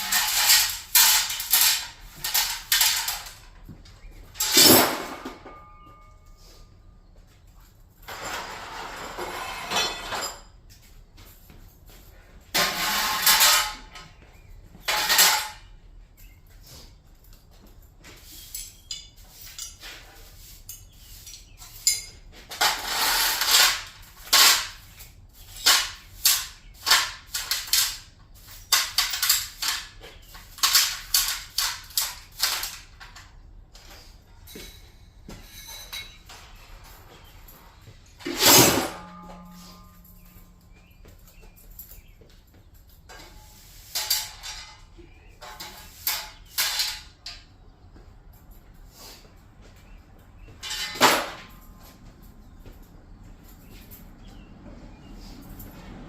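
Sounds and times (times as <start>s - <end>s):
metallic clanks and scrapes: 0.0s - 6.8s, 7.6s - 10.9s, 11.9s - 17.0s, 18.0s - 47.6s, 49.9s - 52.6s.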